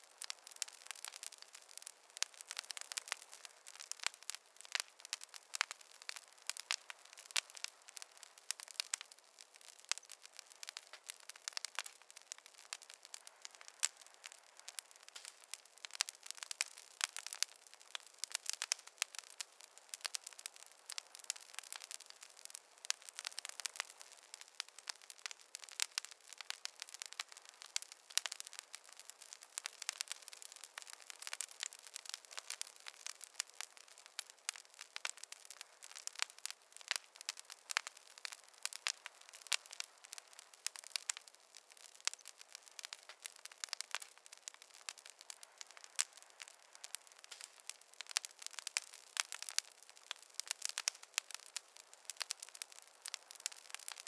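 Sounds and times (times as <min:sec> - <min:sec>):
faint hiss: 0:00.0 - 0:54.0
wood fire crackling and popping: 0:00.0 - 0:54.0.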